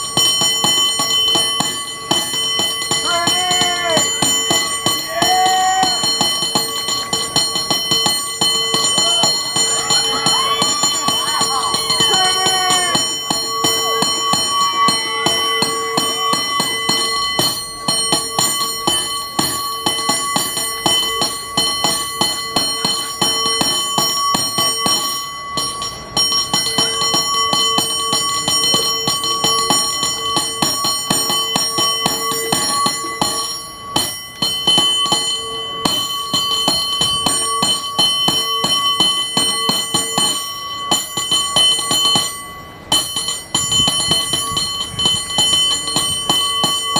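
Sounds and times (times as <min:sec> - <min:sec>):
cable car bell ringing: 0:00.0 - 0:46.9.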